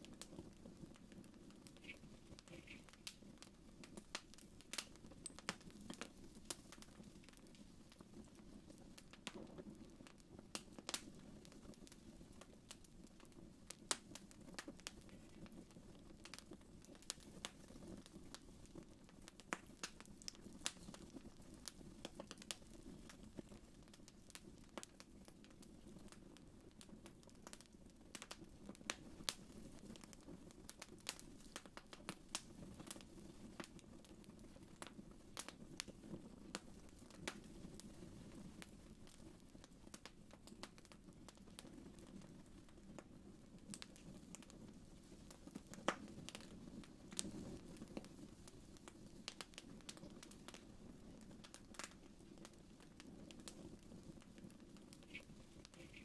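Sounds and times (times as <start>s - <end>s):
sharp pops and snaps: 0.0s - 8.4s, 9.0s - 34.2s, 34.8s - 44.6s, 45.2s - 50.6s, 51.2s - 56.0s
wood fire crackling: 0.0s - 56.0s.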